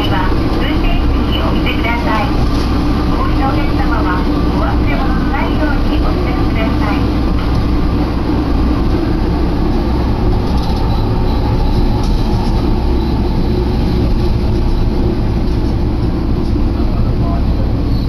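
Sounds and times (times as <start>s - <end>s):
diesel railcar rumble: 0.0s - 18.0s.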